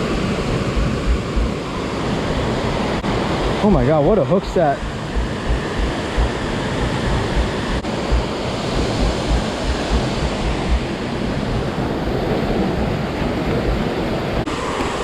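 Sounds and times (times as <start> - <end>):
wind buffeting microphone: 0.0 - 2.1, 2.8 - 15.0.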